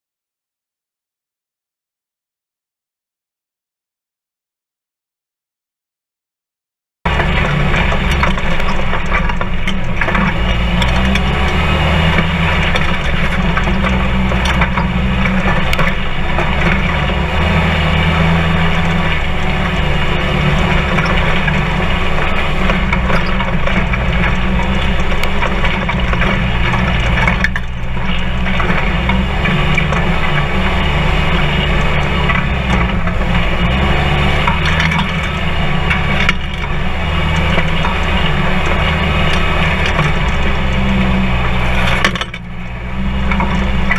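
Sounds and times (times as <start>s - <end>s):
chassis rattling: 7.1s - 43.9s
engine drone: 7.1s - 43.9s
tyres crunching over rough ground: 7.1s - 43.9s.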